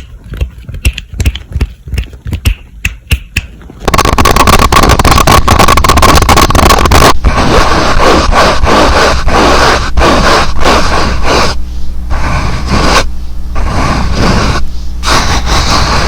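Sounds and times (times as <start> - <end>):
rubbing and scraping hand sounds: 0.0 - 2.7, 3.6 - 16.0
steady low hum: 0.0 - 16.0.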